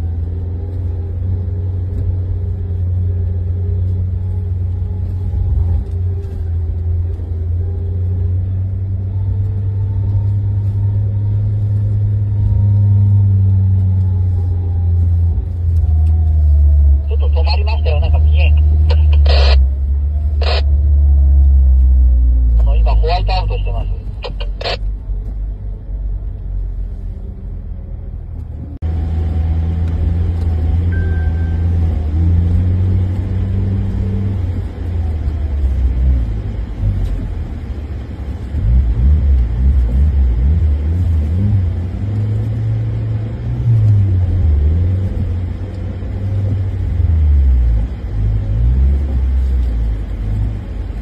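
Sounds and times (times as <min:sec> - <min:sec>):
low road rumble: 0:00.0 - 0:51.0.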